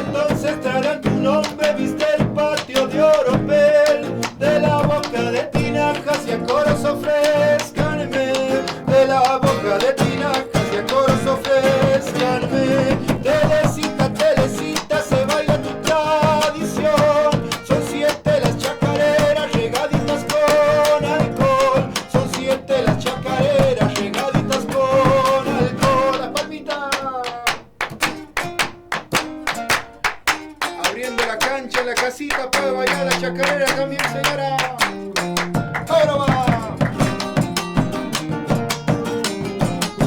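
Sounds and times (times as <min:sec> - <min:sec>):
guitar: 0:00.0 - 0:40.0
hand percussion steady beat: 0:00.0 - 0:40.0.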